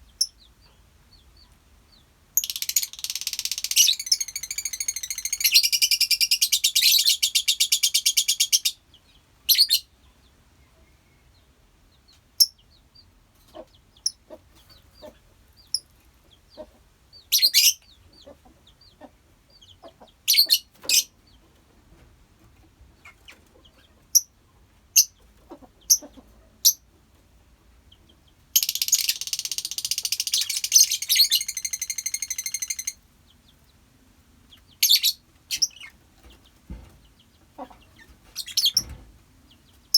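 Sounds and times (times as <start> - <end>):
lovebirds chattering: 0.0 - 10.2, 10.8 - 21.5, 22.9 - 27.0, 27.7 - 33.8, 34.4 - 39.9.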